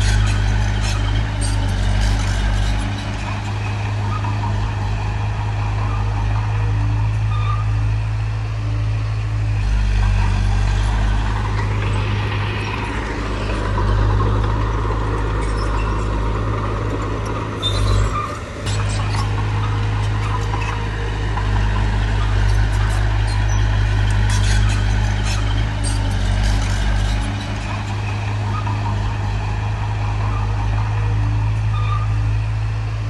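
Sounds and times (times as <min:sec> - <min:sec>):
heavy diesel engine droning: 0:00.0 - 0:33.0.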